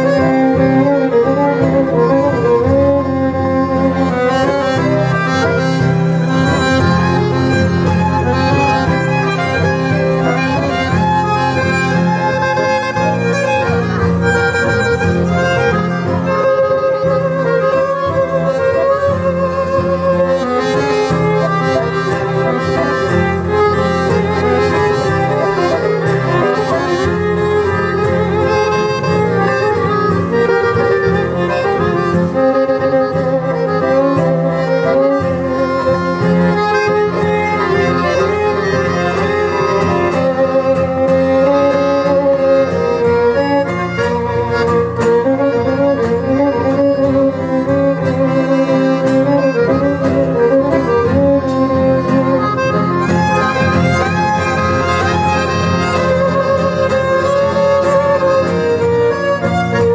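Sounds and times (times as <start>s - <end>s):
folk ensemble playing waltz: 0.0s - 59.9s
violin melody: 0.0s - 59.9s.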